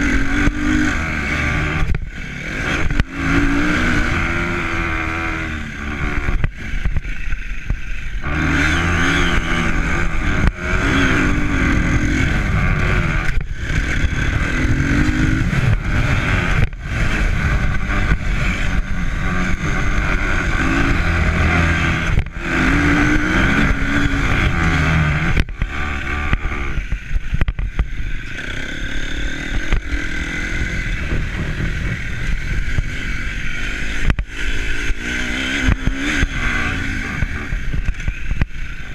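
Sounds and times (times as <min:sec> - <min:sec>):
constant rushing noise: 0:00.0 - 0:38.9
vehicle engine revving: 0:00.0 - 0:38.9.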